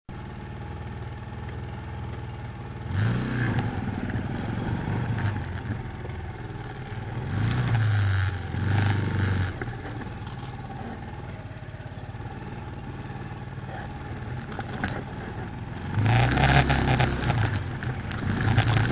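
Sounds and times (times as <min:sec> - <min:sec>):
quad bike engine idling and revving: 0:00.1 - 0:18.9.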